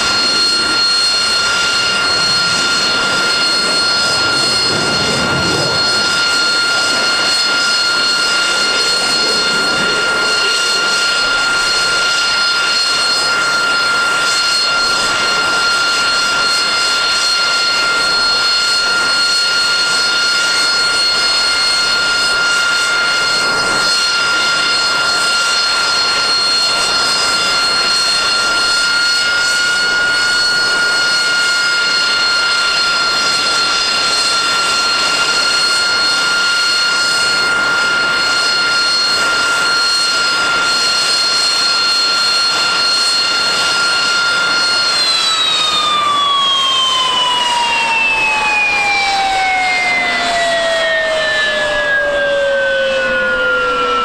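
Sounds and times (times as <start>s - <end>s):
jet engine whine and roar: 0.0s - 54.0s.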